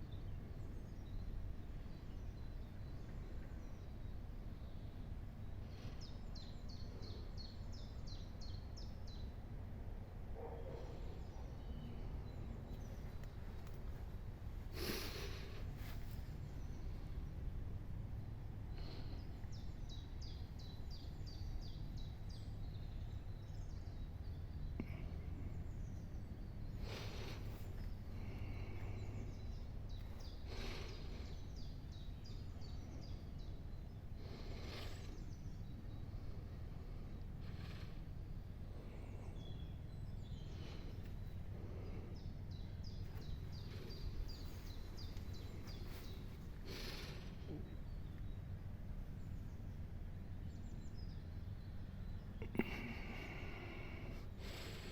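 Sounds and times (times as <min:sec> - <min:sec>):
steady low rumble: 0:00.0 - 0:54.9.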